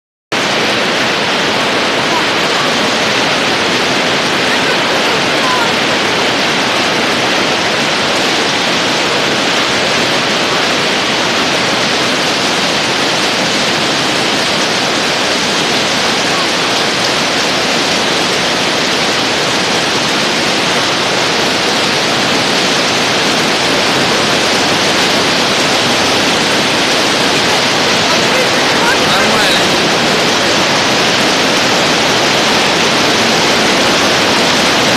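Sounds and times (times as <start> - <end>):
hail and heavy rain pelting: 0.4 - 34.9.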